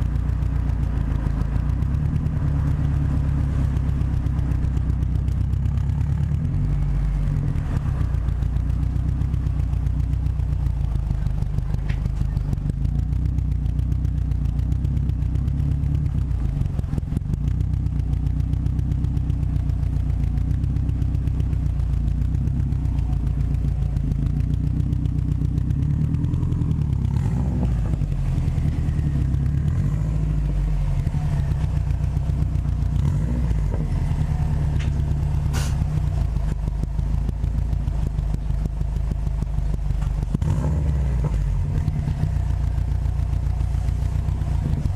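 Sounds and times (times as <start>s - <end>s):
car engine and exhaust running: 0.0s - 44.9s.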